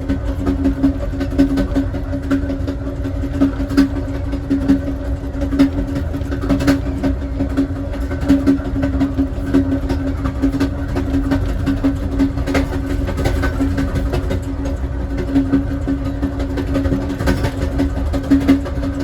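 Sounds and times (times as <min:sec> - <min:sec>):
rail car rumbling on track: 0:00.0 - 0:19.0.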